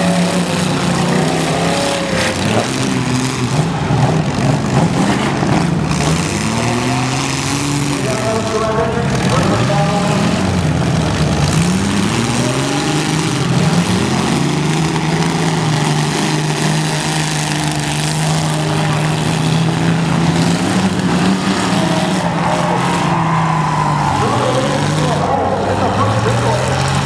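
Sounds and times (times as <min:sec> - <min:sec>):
arena crowd noise: 0:00.0 - 0:27.0
car engines revving: 0:00.0 - 0:27.0.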